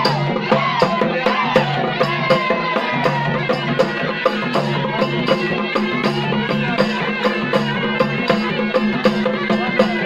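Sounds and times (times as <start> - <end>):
steady percussion beat: 0.0 - 10.0
wavering melody: 0.0 - 10.0.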